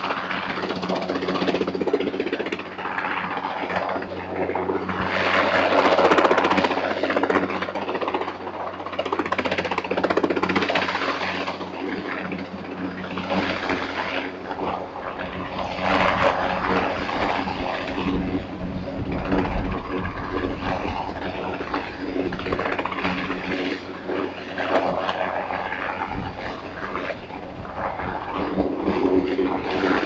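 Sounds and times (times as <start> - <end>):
helicopter engine drone: 0.0 - 30.0
helicopter rotor beating: 0.0 - 30.0.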